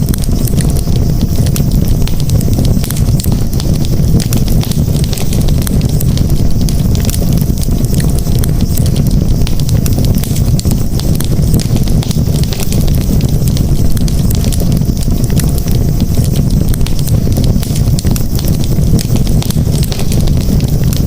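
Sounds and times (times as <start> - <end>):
fire crackling and popping: 0.0 - 21.0
flames rumbling: 0.0 - 21.0.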